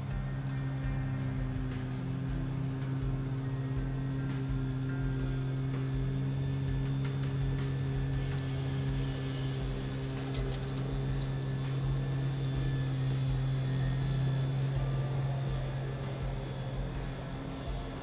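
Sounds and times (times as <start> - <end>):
electric lawn mower humming: 0.0 - 18.0.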